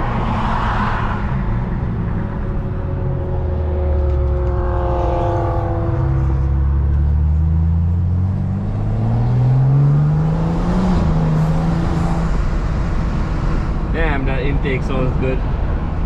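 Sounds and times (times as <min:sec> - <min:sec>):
car engine accelerating: 0:00.0 - 0:15.2.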